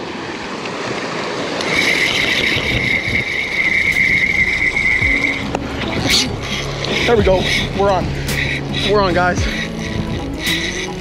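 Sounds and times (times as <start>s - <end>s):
wind: 0.0s - 11.0s
spinning reel gears whining: 1.3s - 11.0s.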